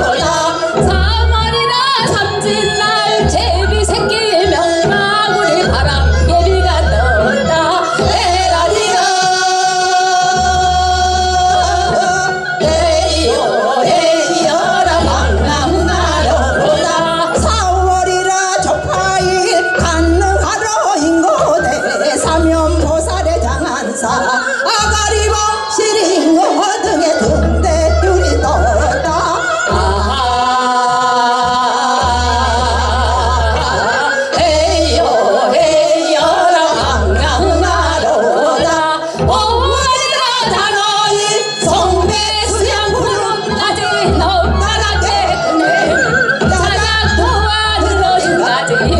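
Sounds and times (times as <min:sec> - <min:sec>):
women singing folk song: 0:00.0 - 0:48.9.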